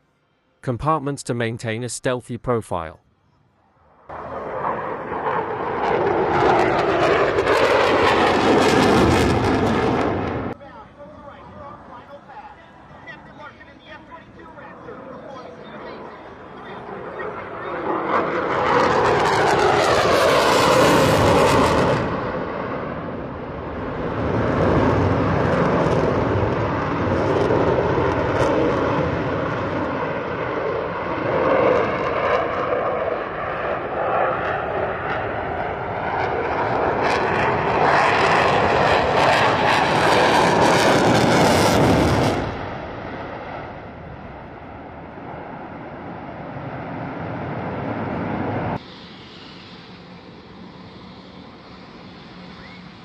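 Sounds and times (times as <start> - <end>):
jet flying past: 3.7 - 53.0.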